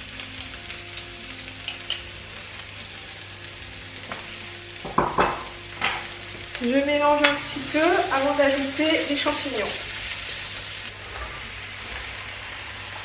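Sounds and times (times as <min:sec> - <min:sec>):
onion and garlic sizzling in oil: 0:00.0 - 0:13.0.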